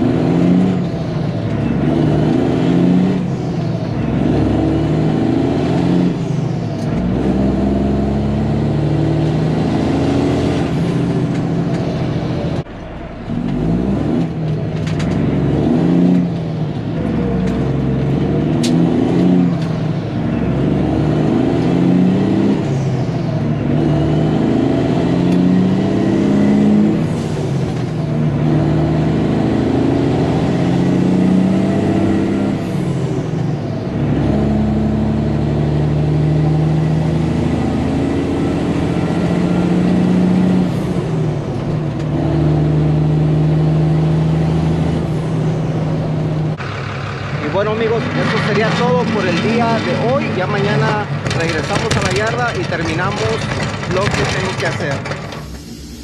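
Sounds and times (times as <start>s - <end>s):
truck engine shifting gears: 0.0s - 56.0s.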